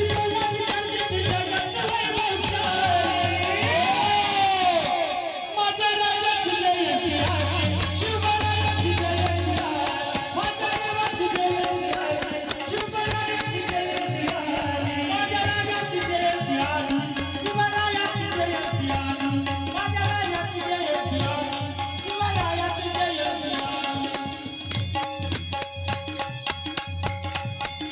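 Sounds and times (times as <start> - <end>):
small cymbal and drum beat: 0.0 - 5.5, 7.2 - 27.9
devotional song melody: 0.0 - 27.9.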